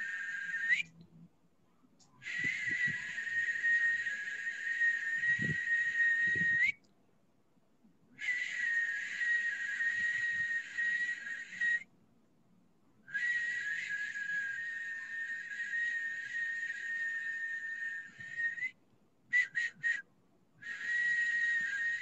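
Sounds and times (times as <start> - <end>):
high-pitched breathy whistle: 0.0 - 1.0, 2.2 - 6.8, 8.2 - 11.9, 13.1 - 20.0, 20.6 - 22.0.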